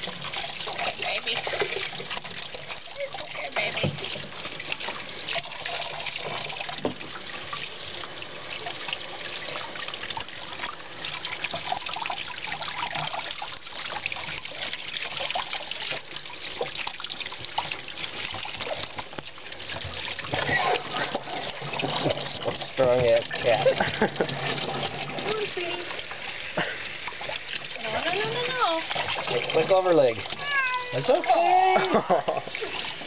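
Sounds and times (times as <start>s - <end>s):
faucet running water: 0.0s - 33.0s
water splashing: 0.0s - 33.0s.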